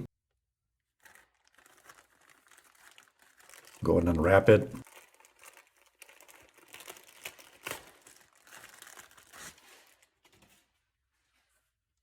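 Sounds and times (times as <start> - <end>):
wrapping crinkling and tearing: 0.9 - 10.8.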